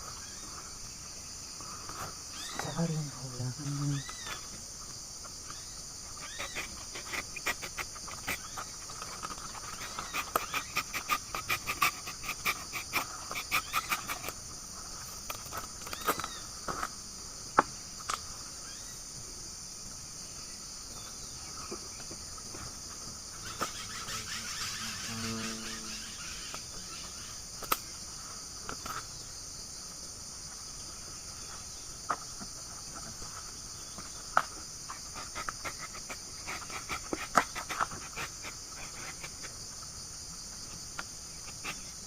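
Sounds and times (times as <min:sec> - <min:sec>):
insect chorus: 0:00.0 - 0:42.0.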